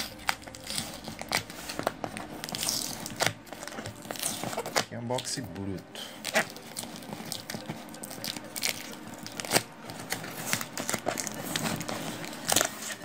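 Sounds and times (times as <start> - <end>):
cardboard and packing tape tearing: 0.0 - 13.0.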